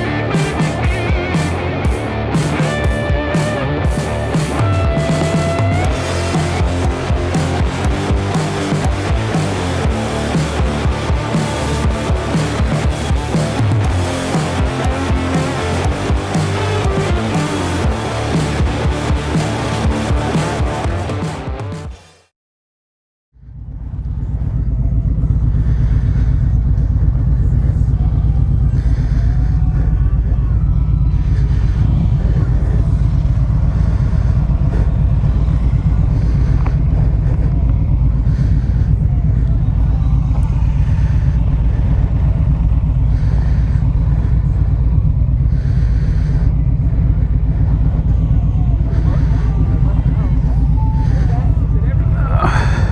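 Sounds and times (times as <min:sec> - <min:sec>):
motorcycle engine rumbling: 0:00.0 - 0:21.9, 0:23.4 - 0:52.9.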